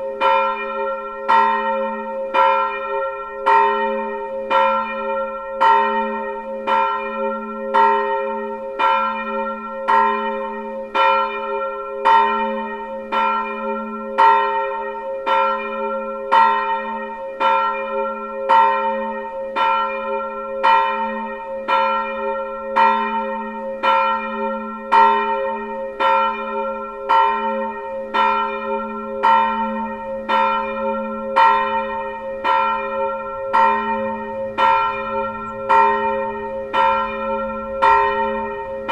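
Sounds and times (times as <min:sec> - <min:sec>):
church bell ringing: 0:00.0 - 0:38.9.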